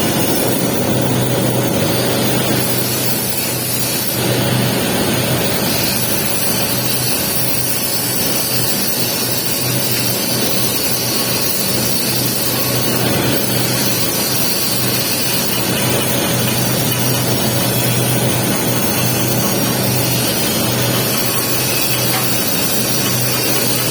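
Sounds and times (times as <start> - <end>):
welding arc hissing: 0.0 - 23.9.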